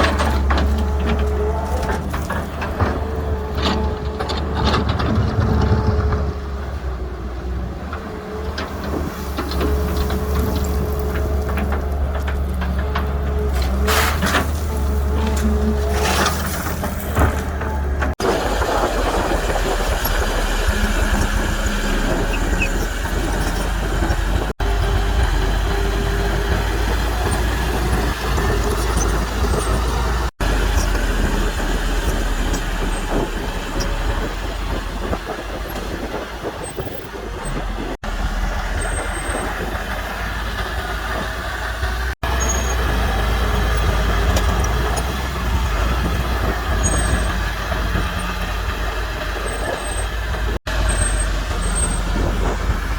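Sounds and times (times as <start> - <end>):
diesel machinery engine rumble: 0.0 - 52.9.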